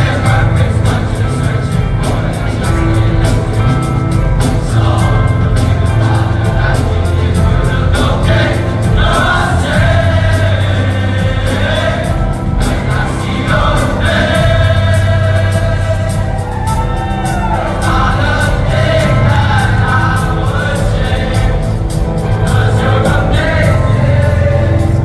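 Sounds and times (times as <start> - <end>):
beat and bass line: 0.0 - 25.0
male choir singing: 0.0 - 25.0.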